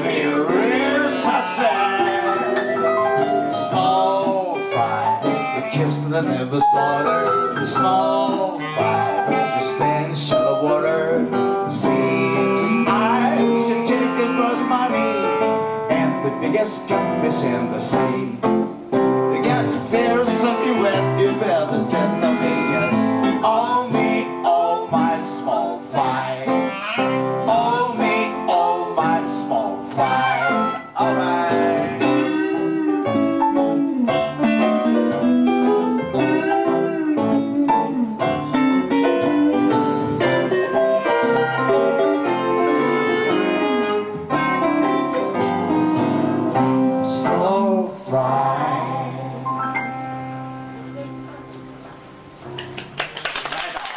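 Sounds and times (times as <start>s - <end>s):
clarinet: 0.0s - 17.2s, 20.0s - 25.2s, 25.9s - 47.3s
person singing: 0.0s - 18.6s, 19.2s - 50.0s
acoustic guitars strumming: 0.0s - 53.0s
piano: 0.0s - 53.9s.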